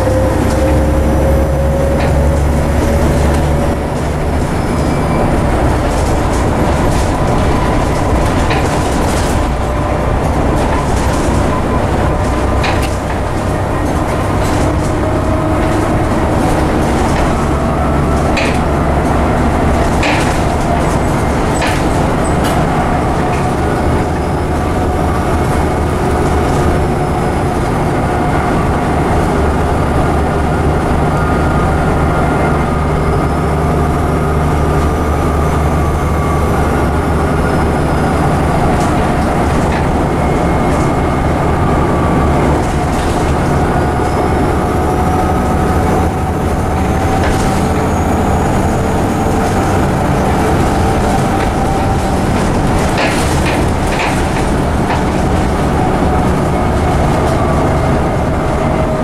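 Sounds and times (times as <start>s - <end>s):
bus body rattles: 0.0s - 59.0s
bus diesel engine running: 0.0s - 59.0s.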